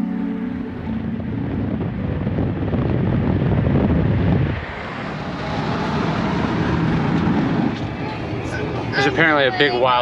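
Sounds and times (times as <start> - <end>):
road and wind noise in vehicle: 0.0 - 10.0.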